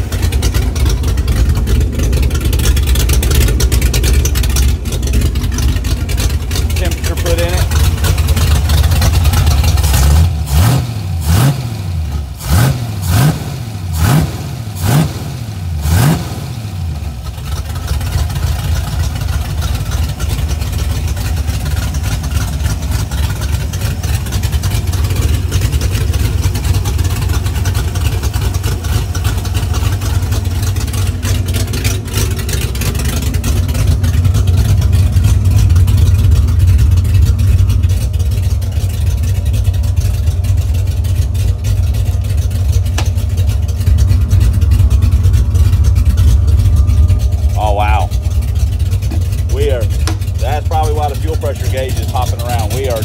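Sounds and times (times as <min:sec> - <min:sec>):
engine revving and idling: 0:00.0 - 0:53.0.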